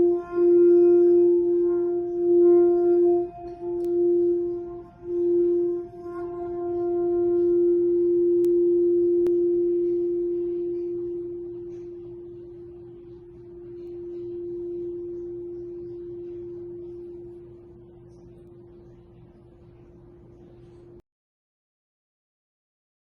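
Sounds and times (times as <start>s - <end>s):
singing bowl ringing: 0.0s - 19.4s.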